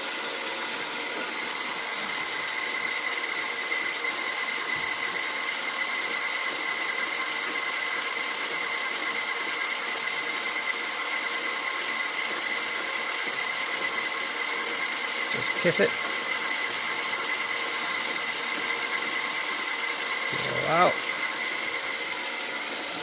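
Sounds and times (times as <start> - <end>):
lathe gearbox whine: 0.0 - 23.0.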